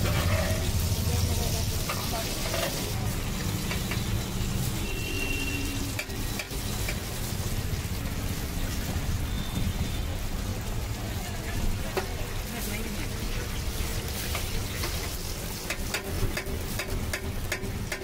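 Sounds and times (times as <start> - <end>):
deep-frying sizzle: 0.0 - 18.0.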